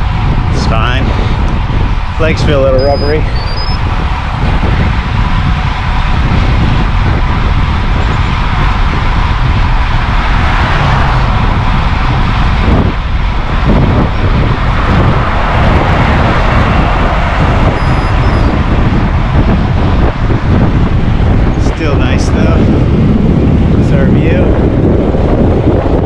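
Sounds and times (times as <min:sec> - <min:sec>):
wind on microphone: 0:00.0 - 0:26.0.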